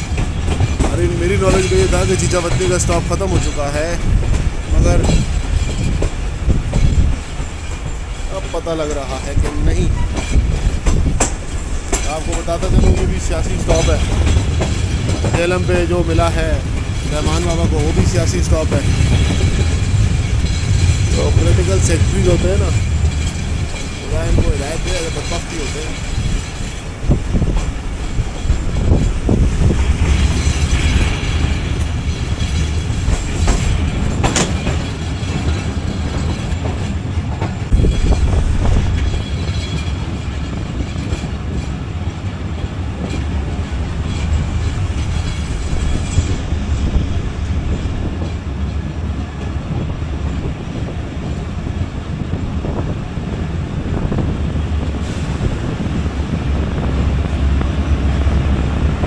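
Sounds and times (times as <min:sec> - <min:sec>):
train rumbling: 0:00.0 - 0:59.0
wheels clacking over rails: 0:00.0 - 0:59.0.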